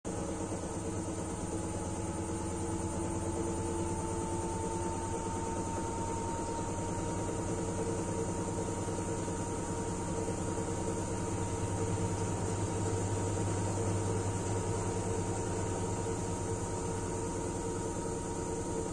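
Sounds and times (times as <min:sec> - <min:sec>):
washing machine spinning: 0:00.1 - 0:18.9.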